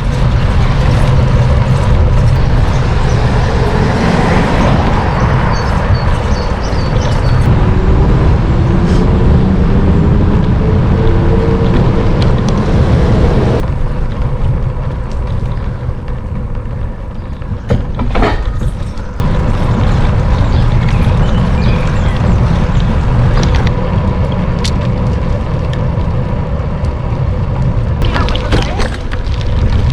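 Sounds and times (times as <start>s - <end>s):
bicycle tyre noise: 0.0s - 29.9s
motor vehicle engine rising: 0.0s - 29.9s
wind rushing over microphone: 0.0s - 29.9s.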